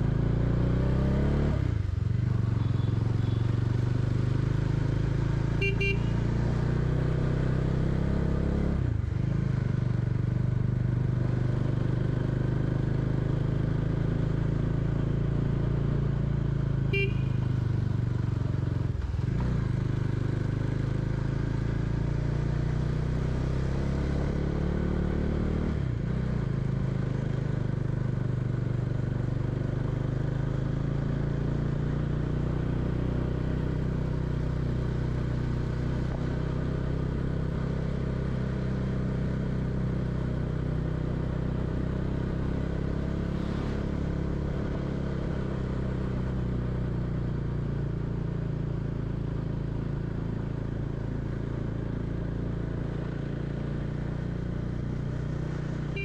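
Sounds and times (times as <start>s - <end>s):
motorcycle engine running: 1.7s - 23.3s, 25.8s - 56.0s.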